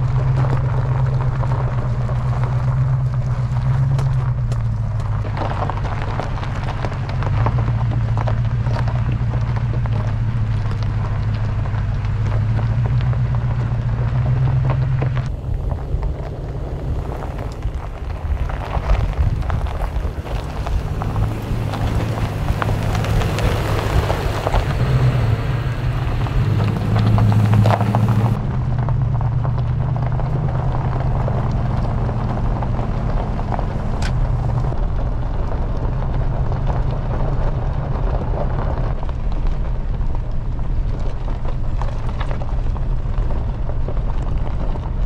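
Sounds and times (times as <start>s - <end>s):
low engine hum: 0.0s - 45.0s
tyre and wind noise: 0.0s - 45.0s.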